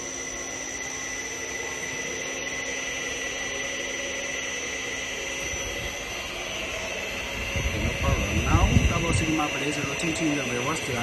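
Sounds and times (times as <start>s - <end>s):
mixer motor whine and hum: 0.0s - 11.0s.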